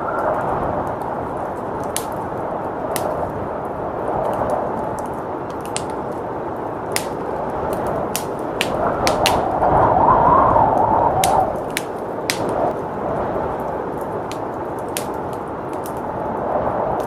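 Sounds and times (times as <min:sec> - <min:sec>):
blizzard wind: 0:00.0 - 0:17.0
wood fire crackling: 0:00.0 - 0:17.0.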